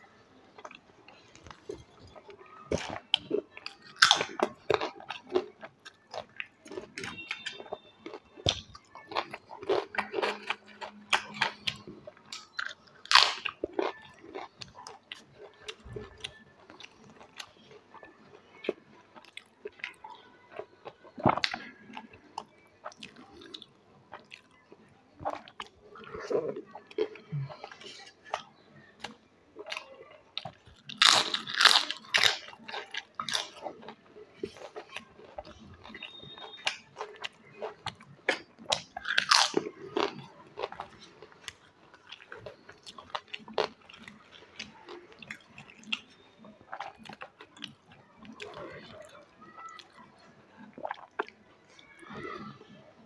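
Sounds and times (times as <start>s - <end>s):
crisps being bitten and chewed: 0.6s - 50.0s, 50.6s - 51.9s.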